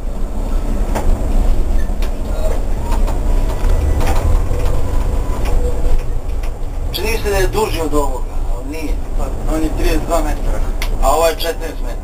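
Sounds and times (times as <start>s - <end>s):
tram rumbling along track: 0.0s - 12.0s.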